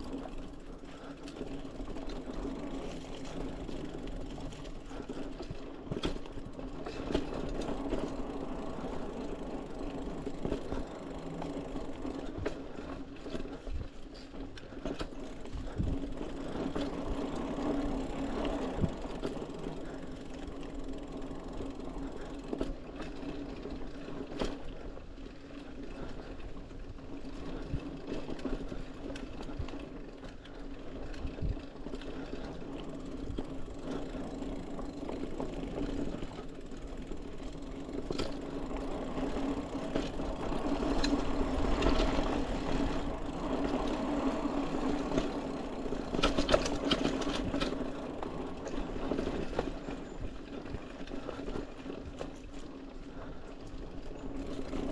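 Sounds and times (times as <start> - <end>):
bike rattling over bumps: 0.0 - 54.9
bike rolling hum: 0.0 - 54.9.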